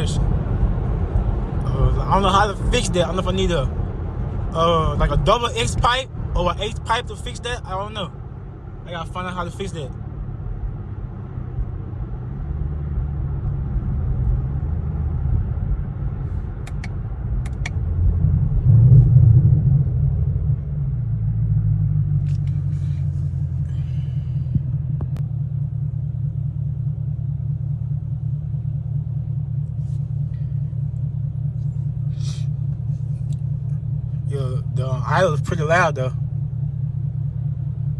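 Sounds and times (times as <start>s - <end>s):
deep car exhaust rumble: 0.0s - 37.9s.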